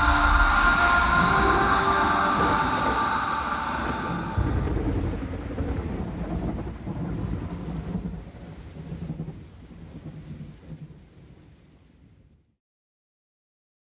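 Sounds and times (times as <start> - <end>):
thunder clap and rumble: 0.0 - 11.5
rain hiss: 0.0 - 12.1.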